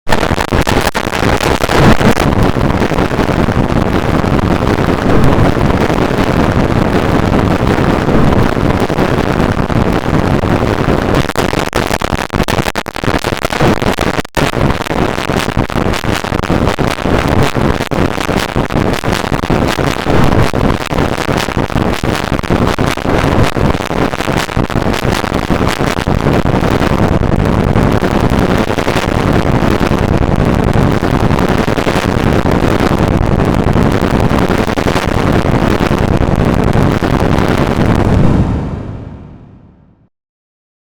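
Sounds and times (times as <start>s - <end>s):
distorted phone alarm noise: 0.1s - 38.2s.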